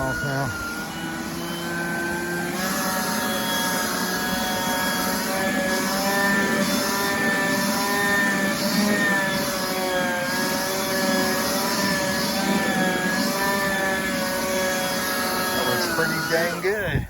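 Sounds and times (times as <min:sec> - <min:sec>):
leaf blower running: 0:00.0 - 0:17.0.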